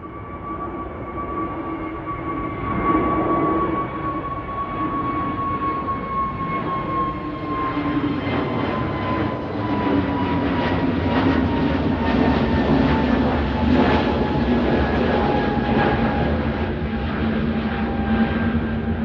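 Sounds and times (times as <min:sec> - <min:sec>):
jet engines roaring and whining: 0:00.0 - 0:19.0.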